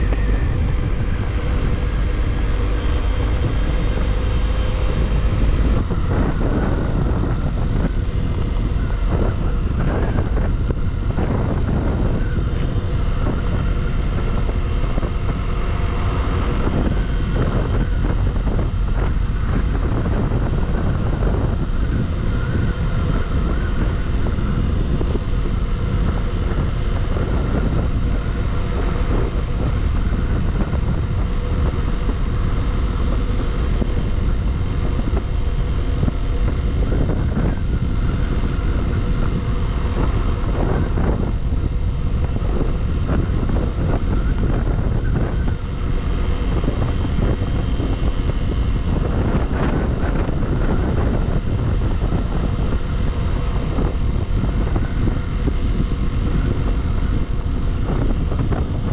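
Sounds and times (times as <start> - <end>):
motorcycle engine running: 0.0 - 58.9
wind rushing over microphone: 0.0 - 58.9.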